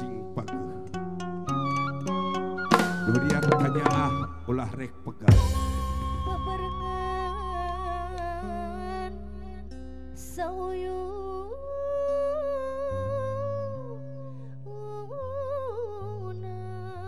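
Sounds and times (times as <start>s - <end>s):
slow melody with sliding notes: 0.0s - 17.0s.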